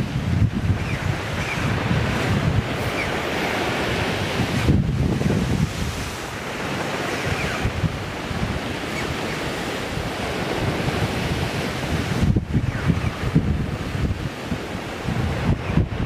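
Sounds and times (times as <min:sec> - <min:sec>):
surf on a pebble beach: 0:00.0 - 0:16.0
wind buffeting microphone: 0:00.0 - 0:16.0.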